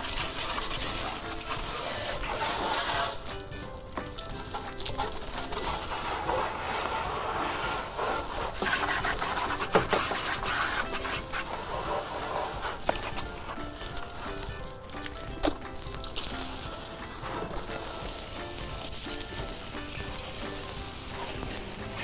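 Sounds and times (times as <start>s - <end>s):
hose water spraying: 0.0s - 22.0s.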